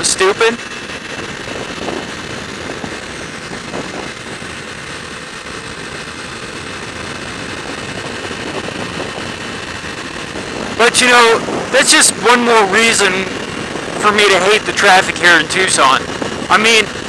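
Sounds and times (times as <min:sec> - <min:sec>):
motorcycle engine running: 0:00.0 - 0:17.0
wind and road noise: 0:00.0 - 0:17.0
wind buffeting on microphone: 0:00.0 - 0:17.0.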